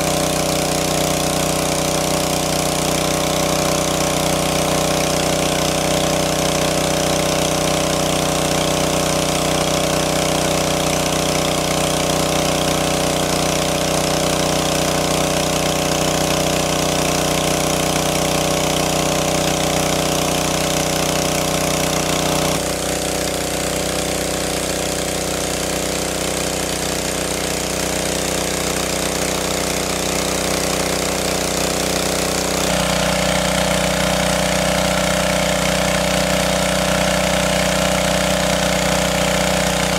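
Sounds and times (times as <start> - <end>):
engine-driven water pump running: 0.0 - 39.9.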